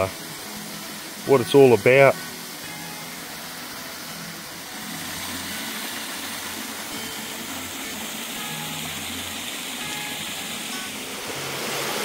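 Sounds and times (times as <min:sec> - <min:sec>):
soft background music: 0:00.0 - 0:12.0
waterfall and creek rushing: 0:00.0 - 0:12.0.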